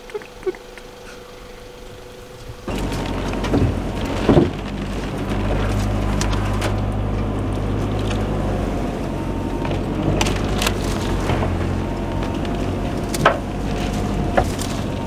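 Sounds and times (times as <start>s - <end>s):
vehicle engine running: 1.0s - 15.0s
branches scraping vehicle: 1.1s - 15.0s.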